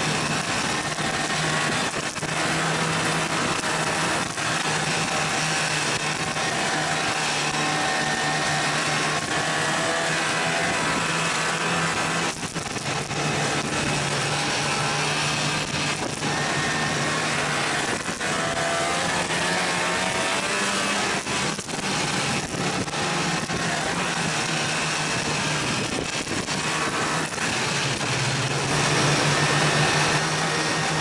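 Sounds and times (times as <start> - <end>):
rush of wind: 0.0 - 31.0
snowmobile engine running: 0.0 - 31.0
track noise: 0.0 - 31.0.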